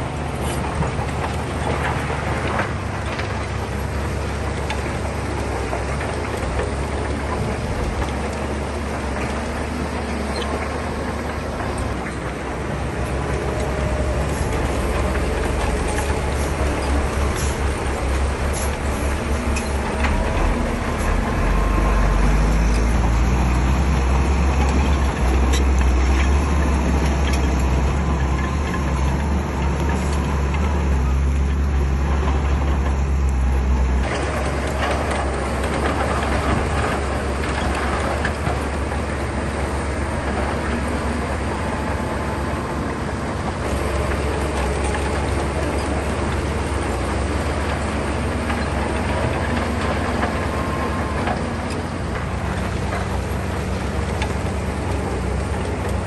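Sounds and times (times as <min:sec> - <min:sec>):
diesel engines rumbling: 0:00.0 - 0:56.0.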